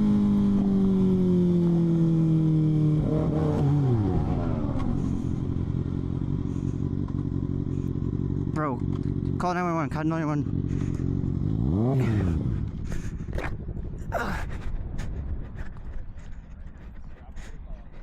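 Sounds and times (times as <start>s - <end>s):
motorcycle engine slowing down: 0.0s - 18.0s.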